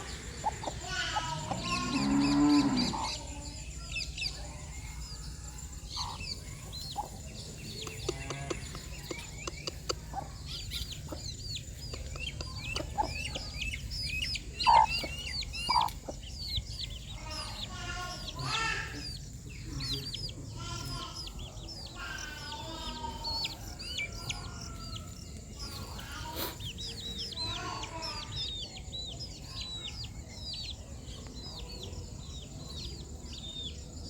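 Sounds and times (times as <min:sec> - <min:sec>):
hens clucking: 0:00.0 - 0:31.4
chicks peeping: 0:00.0 - 0:34.0.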